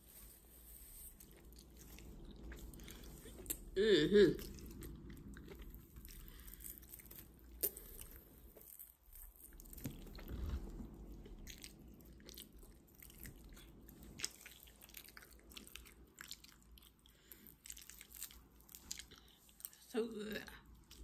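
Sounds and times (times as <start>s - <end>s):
person chewing food: 0.1s - 19.9s.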